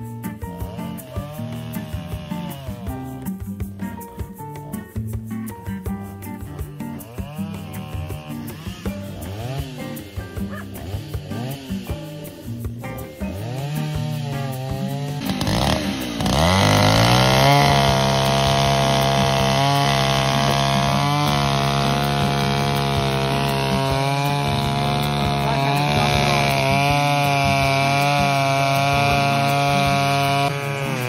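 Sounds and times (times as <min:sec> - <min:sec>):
chainsaw revving: 0:00.4 - 0:03.4, 0:06.5 - 0:31.0.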